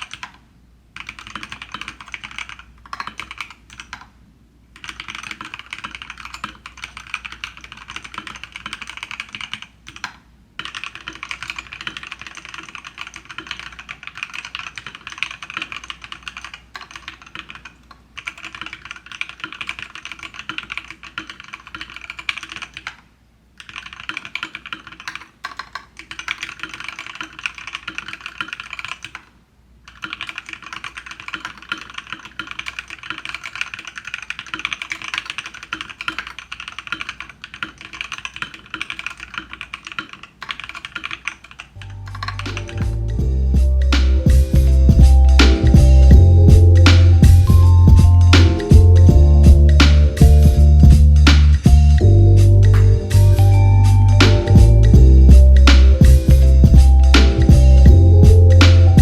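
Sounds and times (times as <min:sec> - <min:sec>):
typing on keyboard: 0:00.0 - 0:00.4, 0:01.0 - 0:23.0, 0:23.6 - 0:59.0.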